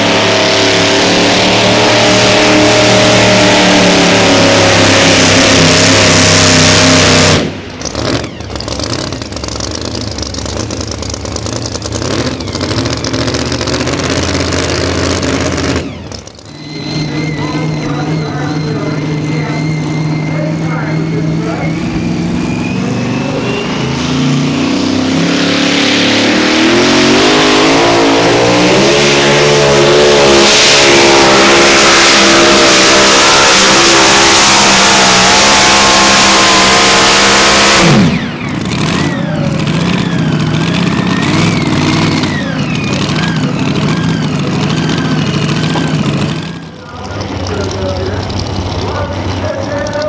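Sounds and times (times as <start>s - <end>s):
truck engine running under load: 0.0s - 50.0s.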